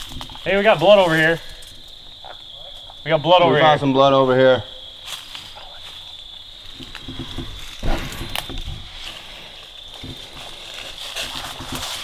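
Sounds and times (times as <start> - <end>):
footsteps in woods: 0.0 - 12.0
high-pitched insect trill: 0.0 - 12.0.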